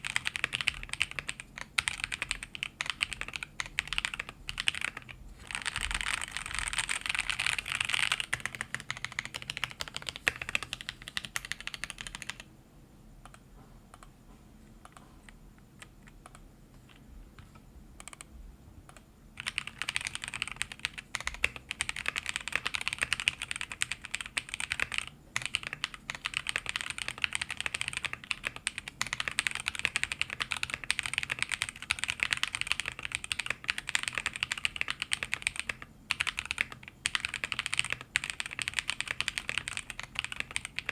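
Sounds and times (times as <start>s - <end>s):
mechanical keyboard typing: 0.0s - 12.5s, 14.9s - 18.3s, 18.9s - 40.9s.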